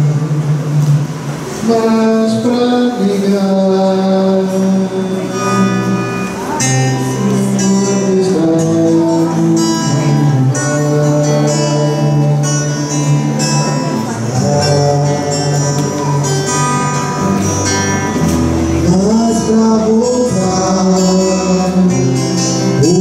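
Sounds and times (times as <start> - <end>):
singing with instrumental music: 0.0 - 23.0.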